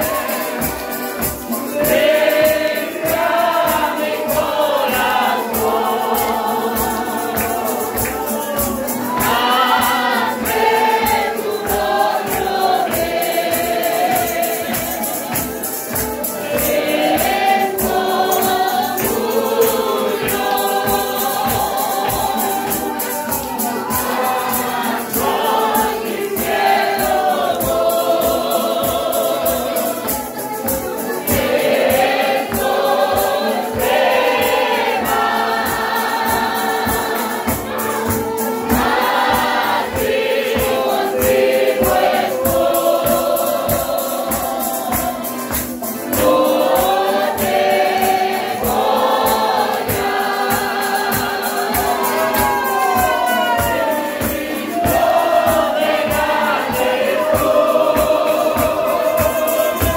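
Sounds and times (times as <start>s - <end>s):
congregation singing a hymn: 0.0s - 59.9s
guitar: 0.0s - 59.9s
small band playing: 0.0s - 59.9s.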